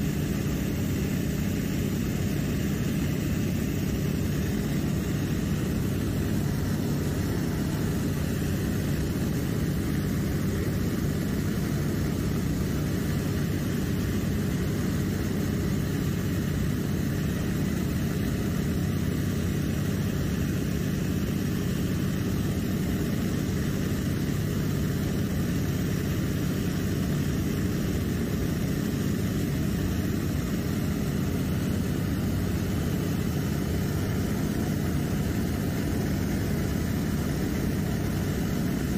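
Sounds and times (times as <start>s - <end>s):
propeller engine droning: 0.0s - 38.9s.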